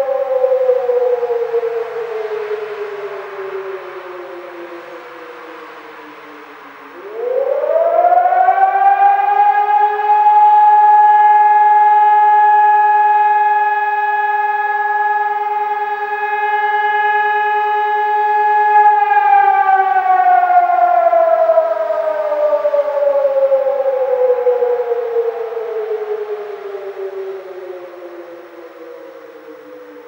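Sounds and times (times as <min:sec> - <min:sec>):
warning siren: 0:00.0 - 0:30.0.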